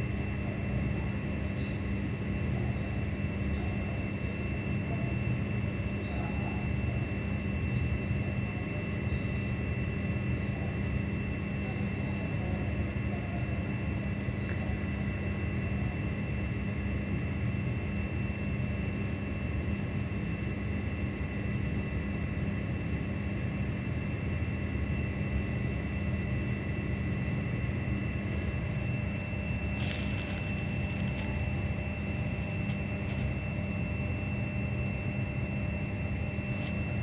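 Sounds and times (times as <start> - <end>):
faint high whine: 0.0 - 37.0.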